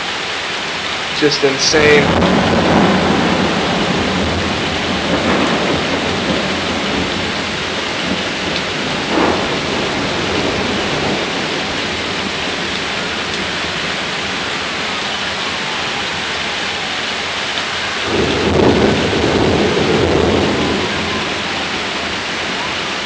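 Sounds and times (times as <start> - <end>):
heavy rain pouring: 0.0 - 23.0
low rumble of thunder: 1.8 - 16.9, 18.0 - 23.0.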